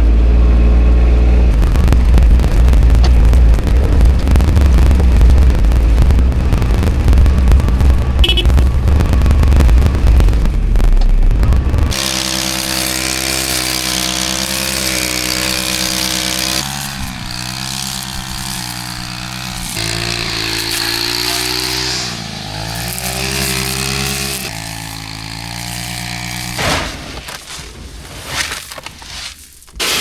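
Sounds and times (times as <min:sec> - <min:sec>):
engine running: 0:00.0 - 0:26.6.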